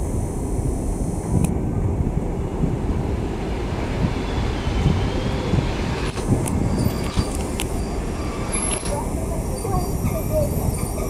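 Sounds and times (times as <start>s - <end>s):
train coaches rumbling on rails: 0.0s - 11.0s.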